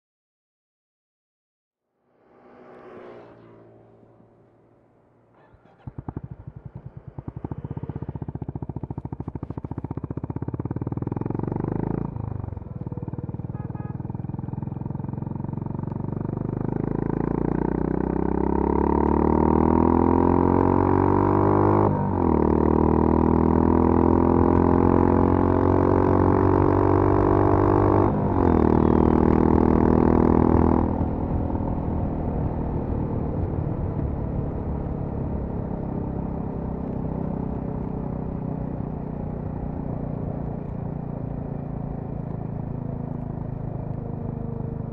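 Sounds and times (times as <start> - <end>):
motorcycle engine at full throttle: 2.2 - 44.9.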